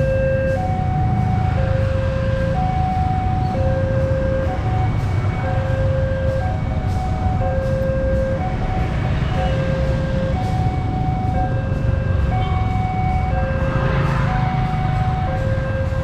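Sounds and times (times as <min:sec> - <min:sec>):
level-crossing two-tone alarm: 0:00.0 - 0:16.0
train rumbling past: 0:00.6 - 0:16.0.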